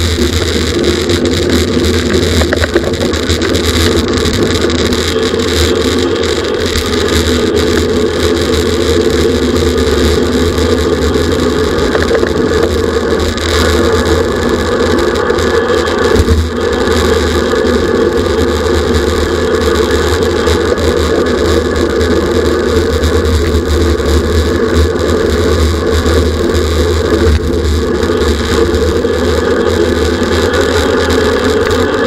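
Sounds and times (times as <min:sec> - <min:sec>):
road noise: 0:00.0 - 0:32.0
wind rush on microphone: 0:00.0 - 0:32.0.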